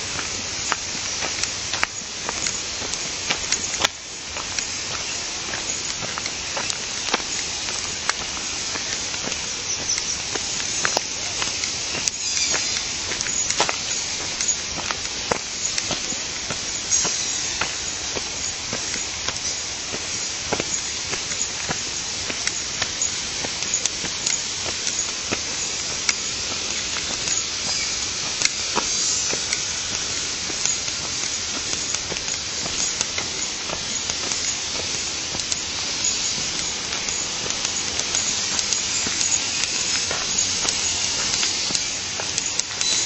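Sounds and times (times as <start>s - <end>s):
stream water flowing: 0.0s - 43.0s
small sharp ticks: 0.1s - 43.0s.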